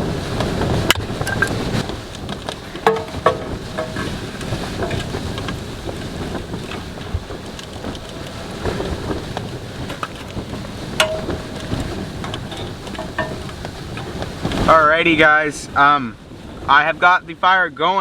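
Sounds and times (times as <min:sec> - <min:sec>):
fire crackles and pops: 0:00.0 - 0:15.2
fire rushing noise: 0:00.0 - 0:17.7.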